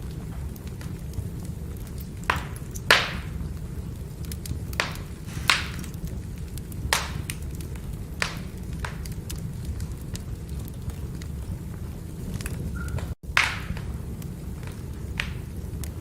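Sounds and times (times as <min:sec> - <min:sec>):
firewood crackling and popping: 0:00.0 - 0:16.0.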